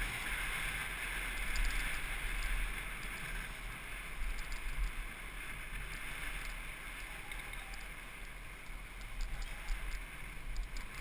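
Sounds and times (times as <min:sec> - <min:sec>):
tyres rolling on asphalt: 0:00.0 - 0:11.0
faint irregular ticking: 0:00.4 - 0:05.2, 0:05.8 - 0:11.0.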